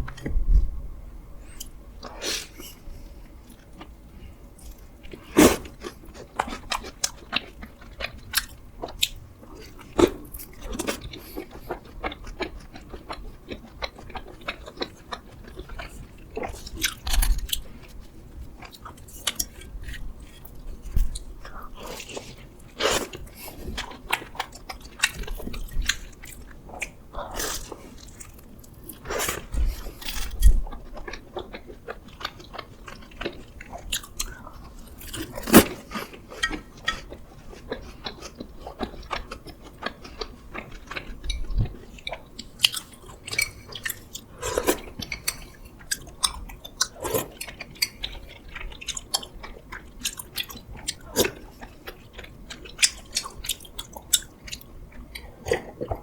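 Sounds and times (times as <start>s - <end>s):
person chewing crunchy food: 1.5s - 56.0s.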